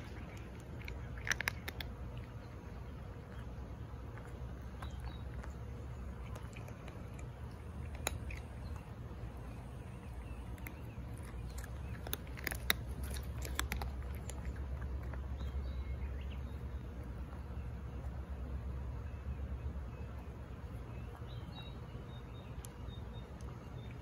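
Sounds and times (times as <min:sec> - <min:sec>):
cats crunching treats: 0:00.0 - 0:24.0
steady low rumble: 0:00.0 - 0:24.0.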